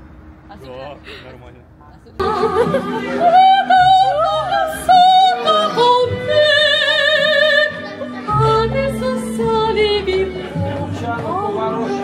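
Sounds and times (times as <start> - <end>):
low musical accompaniment: 2.2 - 12.0.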